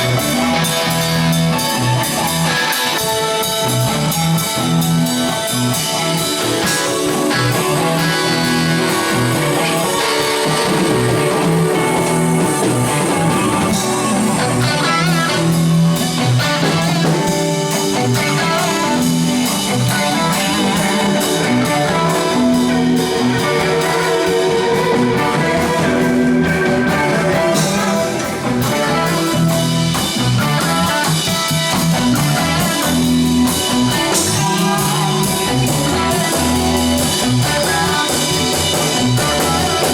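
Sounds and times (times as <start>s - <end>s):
bass: 0.0s - 39.9s
drum kit: 0.0s - 39.9s
electric guitar: 0.0s - 39.9s.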